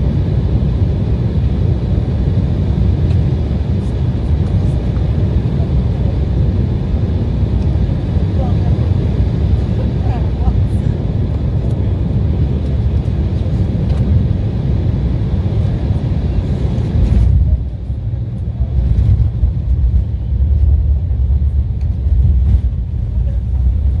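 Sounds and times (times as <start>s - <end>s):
low rumble of runway and engines: 0.0s - 24.0s.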